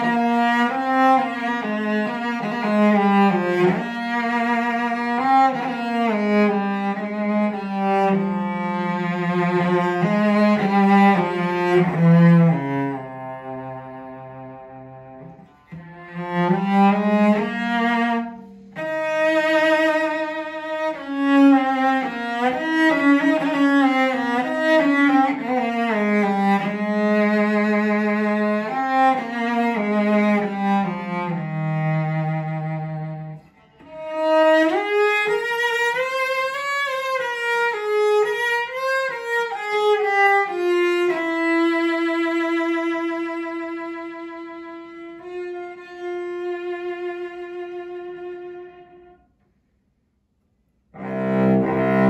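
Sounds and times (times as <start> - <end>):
bowed cello melody: 0.0 - 49.4, 50.8 - 52.0.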